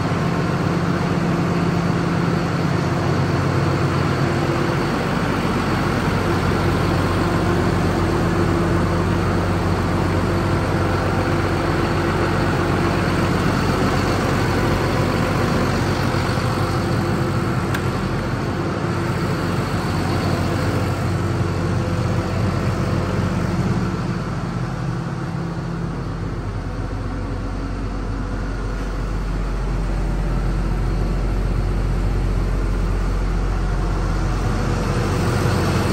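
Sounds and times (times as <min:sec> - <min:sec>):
tractor diesel engine idling: 0:00.0 - 0:35.9.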